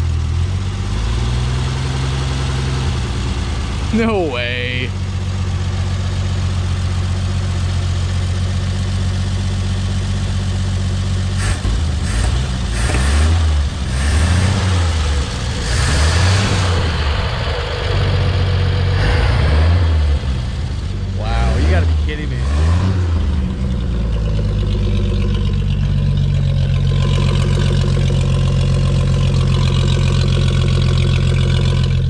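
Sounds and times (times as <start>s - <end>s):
pickup engine idling and revving: 0.0s - 32.0s.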